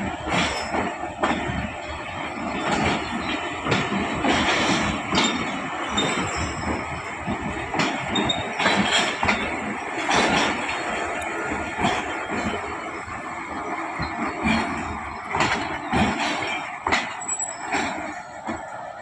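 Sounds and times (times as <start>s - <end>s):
wheel squeal: 0.0s - 18.7s
train coaches rumbling: 0.0s - 19.0s
wheels clanking over rail joints: 0.0s - 19.0s.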